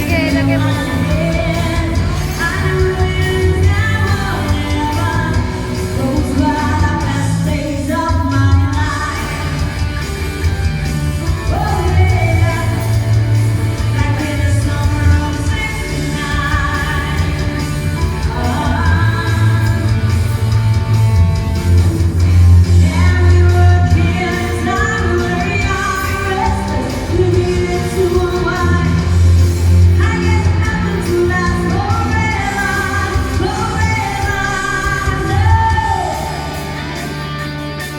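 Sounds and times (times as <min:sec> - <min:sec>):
person singing: 0:00.0 - 0:10.0, 0:11.1 - 0:21.0, 0:22.2 - 0:37.3
amplified band playing: 0:00.0 - 0:37.9
heavy bass: 0:00.0 - 0:37.9.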